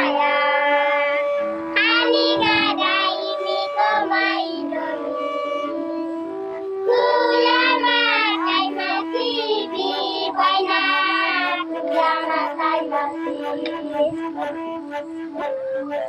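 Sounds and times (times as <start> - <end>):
children singing together: 0.0 - 5.9, 6.8 - 14.5.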